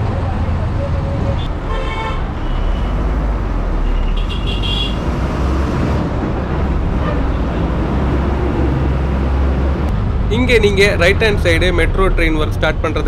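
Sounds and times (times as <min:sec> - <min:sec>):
road noise: 0:00.0 - 0:13.0
bus engine running: 0:02.4 - 0:13.0.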